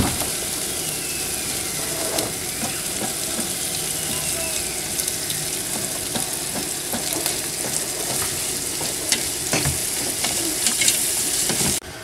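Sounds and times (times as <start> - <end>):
spice paste sizzling in pot: 0.3 - 11.8.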